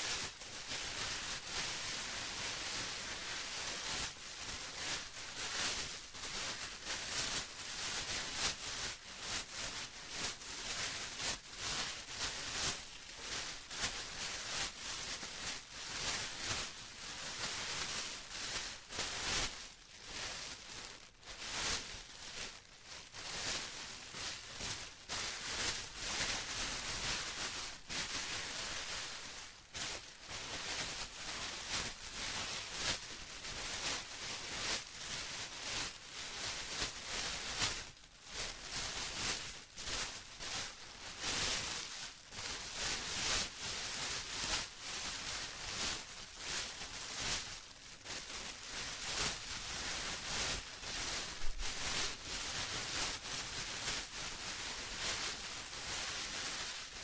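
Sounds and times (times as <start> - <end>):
plastic rustling and crinkling: 0.0 - 57.0.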